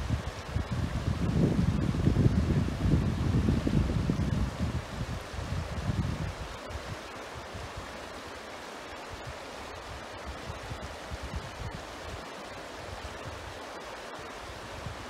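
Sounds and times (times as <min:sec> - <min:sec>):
wind rumbling on microphone: 0:00.0 - 0:08.0, 0:09.1 - 0:13.6, 0:14.3 - 0:15.0
river rushing: 0:00.0 - 0:15.0.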